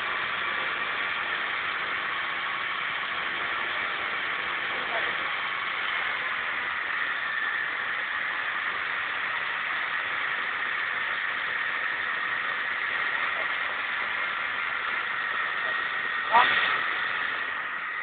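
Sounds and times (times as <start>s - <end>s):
engine at steady revs: 0.0s - 18.0s.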